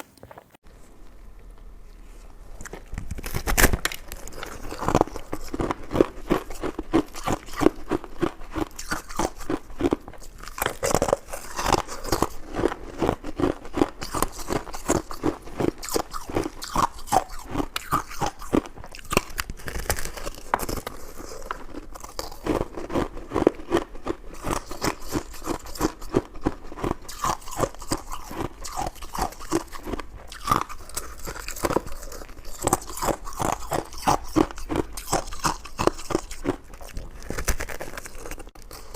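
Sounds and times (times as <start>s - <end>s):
person chewing with mouth clicks: 1.5s - 38.9s.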